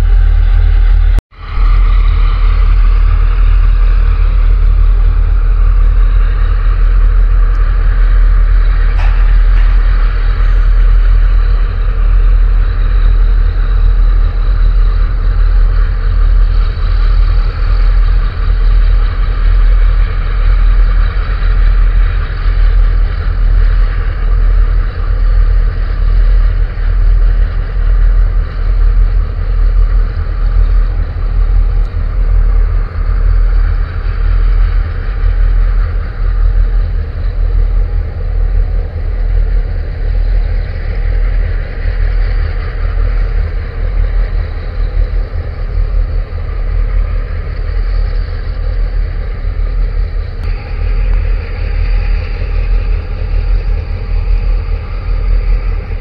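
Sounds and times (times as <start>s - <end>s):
ship engines rumbling: 0.0s - 56.0s
hiss: 1.4s - 56.0s.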